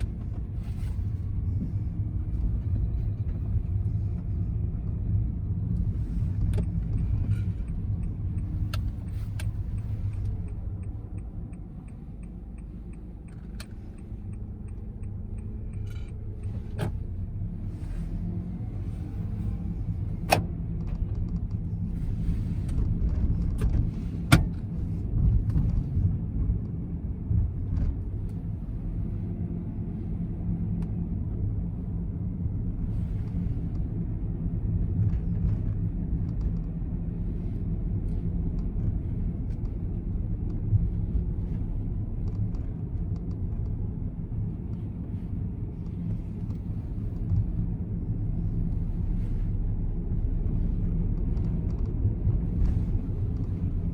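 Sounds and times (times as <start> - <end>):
car engine humming: 0.0 - 53.9.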